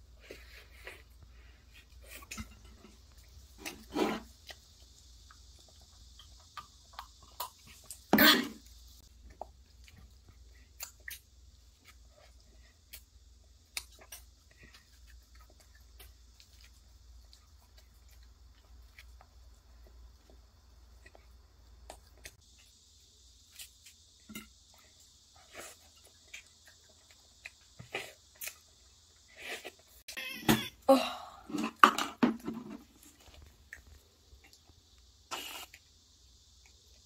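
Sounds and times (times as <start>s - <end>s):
chewing crispy food: 0.0s - 30.0s, 32.8s - 37.0s.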